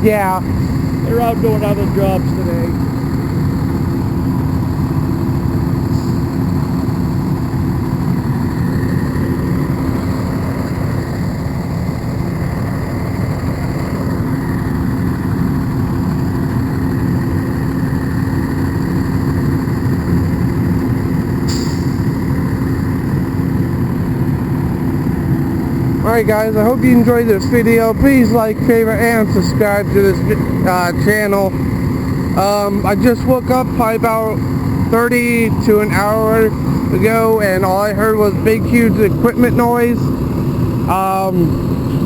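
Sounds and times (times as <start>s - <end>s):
heavy machine engine rumble: 0.0s - 42.0s.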